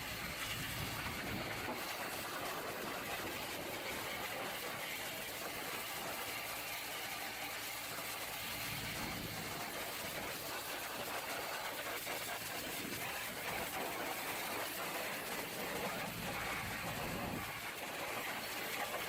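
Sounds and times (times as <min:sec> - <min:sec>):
engine running: 0:00.0 - 0:06.2, 0:07.8 - 0:11.2, 0:11.8 - 0:19.0.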